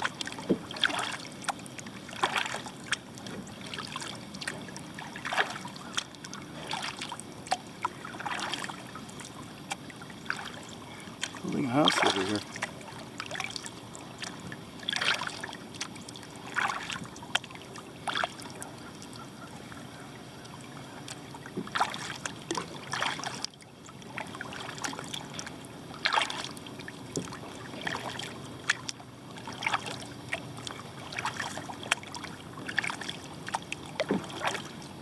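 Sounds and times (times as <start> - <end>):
paddle splashes and drips: 0.0 - 35.0.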